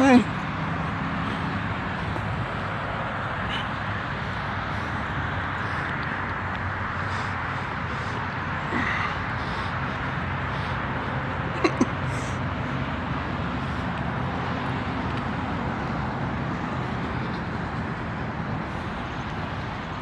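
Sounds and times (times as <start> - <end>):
steady outdoor rushing noise: 0.0 - 20.0.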